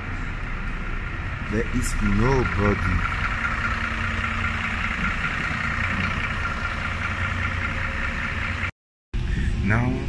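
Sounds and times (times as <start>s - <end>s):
bus engine humming: 0.0s - 10.0s.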